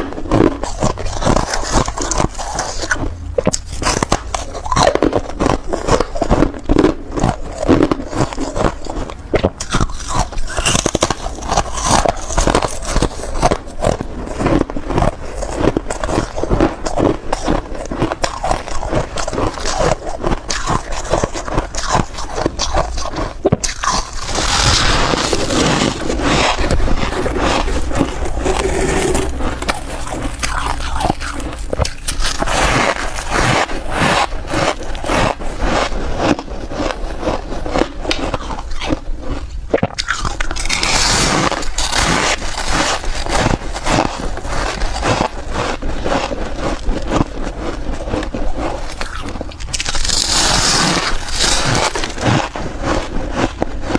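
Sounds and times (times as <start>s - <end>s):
crunching ice chunks: 0.0s - 53.9s.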